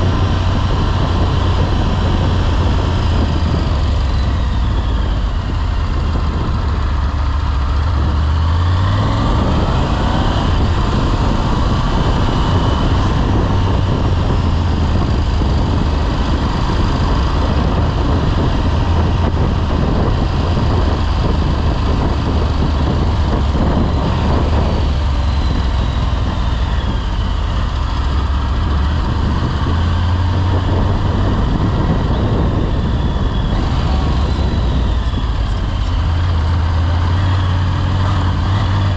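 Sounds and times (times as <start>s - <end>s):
motorcycle engine accelerating: 0.0s - 38.9s
wind and road noise: 0.0s - 38.9s.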